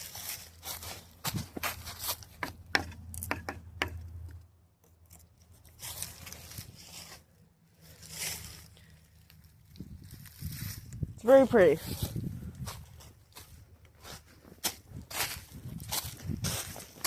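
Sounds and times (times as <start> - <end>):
leaves rustling: 0.0 - 2.3, 5.1 - 17.0
footsteps crunching on dry leaves: 0.0 - 2.4, 5.4 - 17.0.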